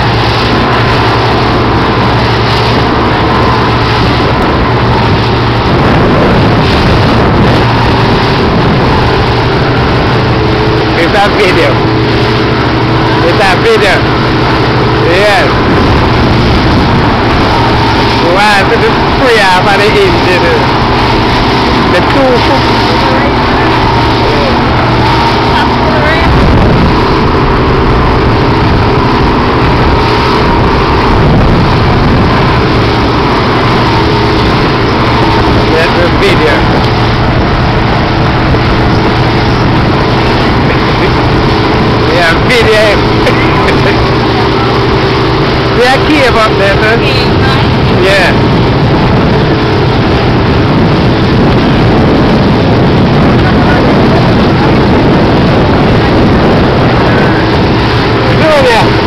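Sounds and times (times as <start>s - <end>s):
churning wake water: 0.0s - 59.0s
outboard motors running: 0.0s - 59.0s
wind rushing: 0.0s - 59.0s.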